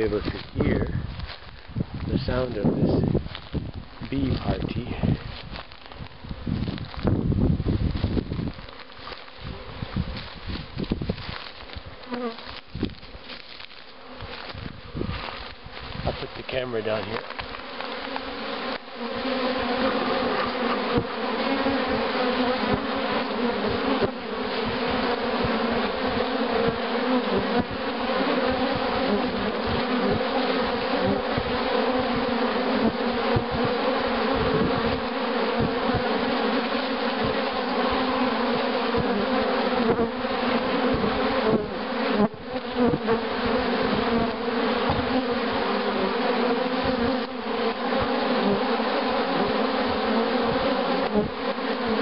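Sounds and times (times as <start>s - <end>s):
honeybees buzzing hum: 0.0s - 52.0s
single bees buzzing past: 0.0s - 52.0s.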